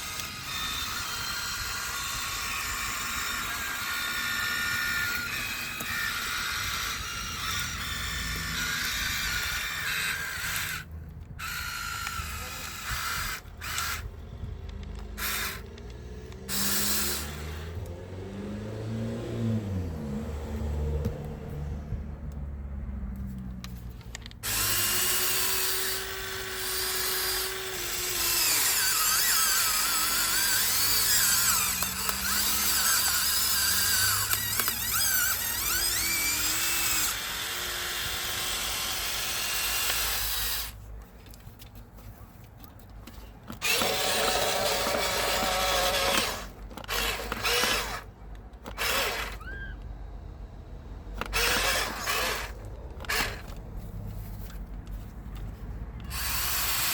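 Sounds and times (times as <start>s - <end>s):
electric gear motors whining: 0.0s - 56.9s.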